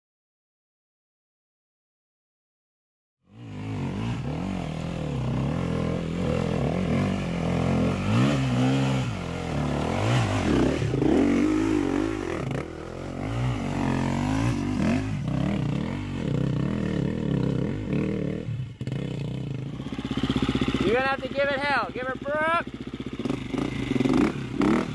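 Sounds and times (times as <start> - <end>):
dirt bike engine revving: 3.3 - 24.9.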